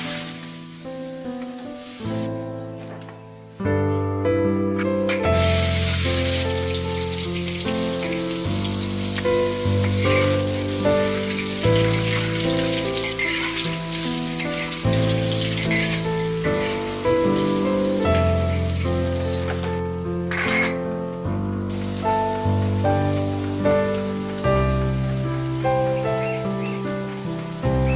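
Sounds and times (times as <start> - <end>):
food sizzling in hot oil: 0.0 - 2.8, 5.1 - 27.9
background music sustained notes: 0.0 - 27.9.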